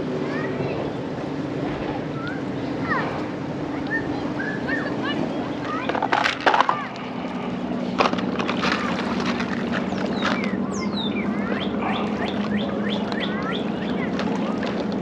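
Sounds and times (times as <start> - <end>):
low motor drone: 0.0 - 15.0
birds chirping: 0.3 - 15.0.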